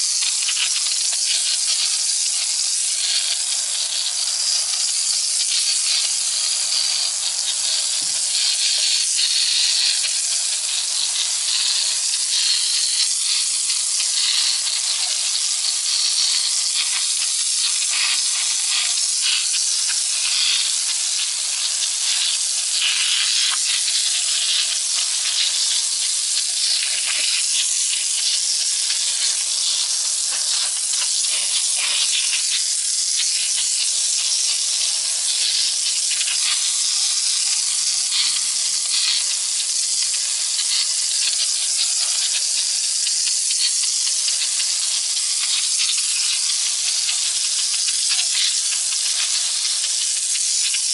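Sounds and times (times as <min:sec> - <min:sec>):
water jet spraying on brick wall: 0:00.0 - 0:50.9.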